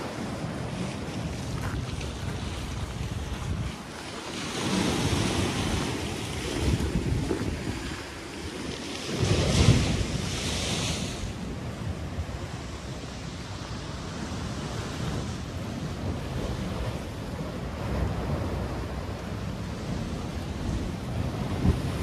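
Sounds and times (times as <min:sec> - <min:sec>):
sea waves breaking: 0:00.0 - 0:22.0
wind rumbling on microphone: 0:00.0 - 0:22.0.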